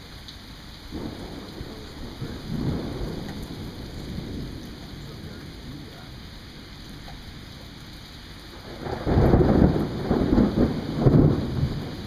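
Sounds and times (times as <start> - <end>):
steady rain: 0.0 - 12.0
thunder rumbling: 0.9 - 12.0.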